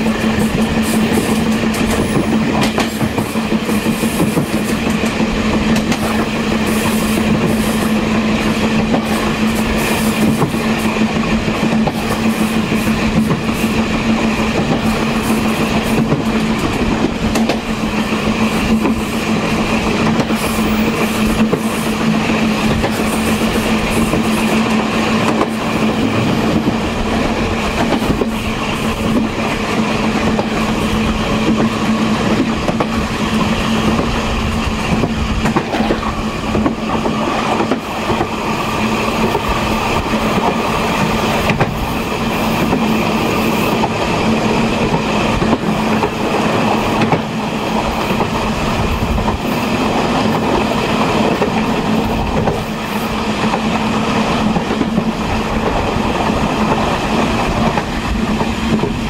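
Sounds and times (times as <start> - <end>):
train running hum: 0.0 - 59.0.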